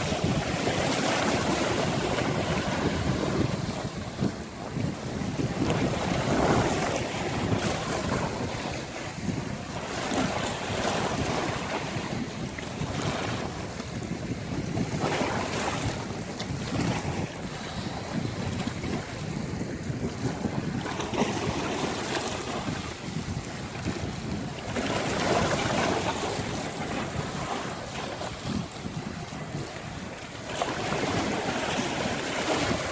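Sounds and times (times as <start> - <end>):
sea waves breaking on beach: 0.0 - 32.9
wind buffeting microphone: 0.0 - 32.9.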